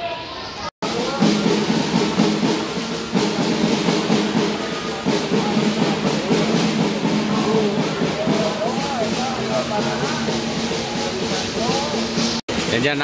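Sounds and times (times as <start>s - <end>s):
drum beat: 0.8s - 13.0s.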